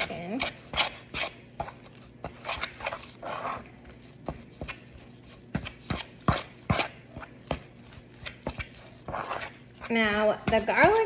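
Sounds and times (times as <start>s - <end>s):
food stirred in a bowl: 0.0s - 11.0s.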